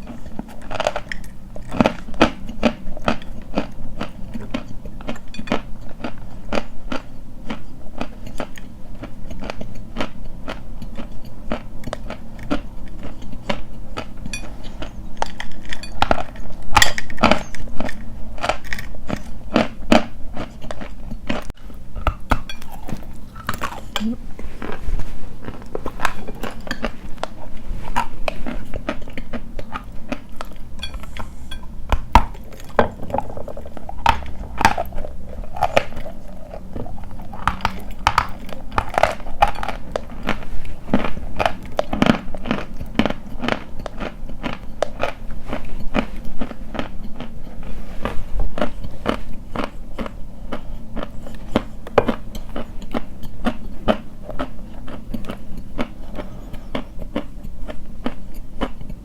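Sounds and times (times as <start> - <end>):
chalk being chewed crunching: 0.0 - 59.0.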